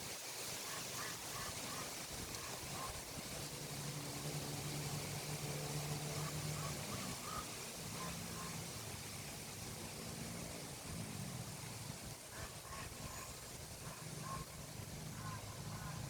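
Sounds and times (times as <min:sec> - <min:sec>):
constant hiss: 0:00.0 - 0:16.0
low engine hum: 0:02.3 - 0:16.0.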